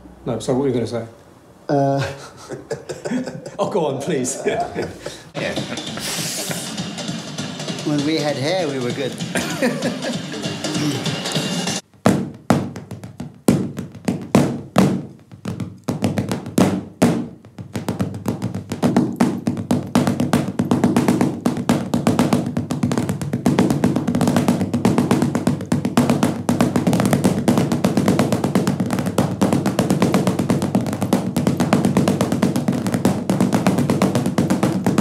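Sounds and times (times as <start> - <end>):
drumsticks and hands tapping furniture: 4.8 - 35.0.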